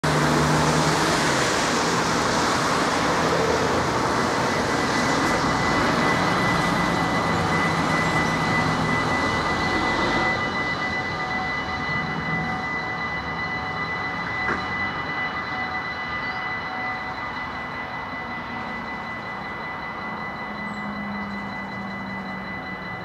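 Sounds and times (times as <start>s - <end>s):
crossing warning bell ringing: 0.0s - 23.0s
road traffic passing: 0.0s - 23.0s.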